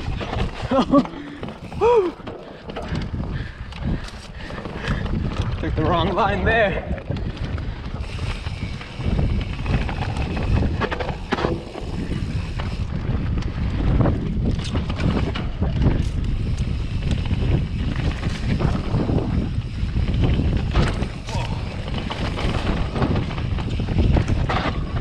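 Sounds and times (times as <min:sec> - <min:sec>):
bike clicks and rattles: 0:00.0 - 0:25.0
bike tyres on dirt trail: 0:00.0 - 0:25.0
wind buffeting microphone: 0:00.0 - 0:25.0.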